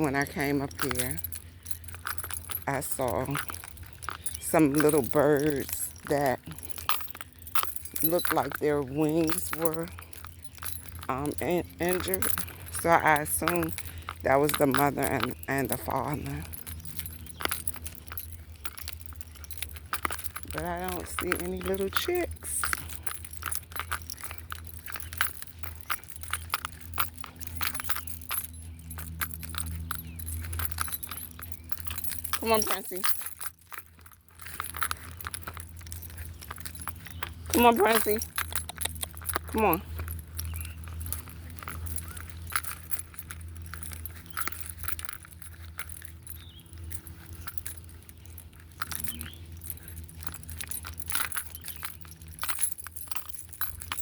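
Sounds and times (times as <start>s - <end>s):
low steady hum: 0.0s - 54.0s
small metal pieces jingling: 0.0s - 54.0s.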